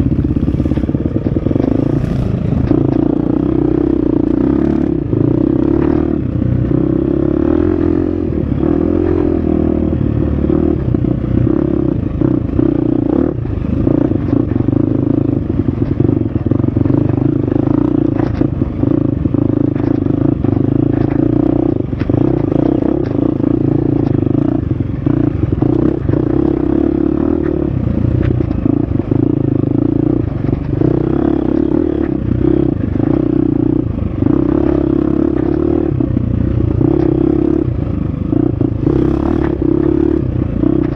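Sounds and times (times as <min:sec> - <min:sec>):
bike knocks and rattles: 0:00.0 - 0:06.9, 0:10.8 - 0:40.9
dirt bike engine under load: 0:00.0 - 0:06.9, 0:10.7 - 0:40.9.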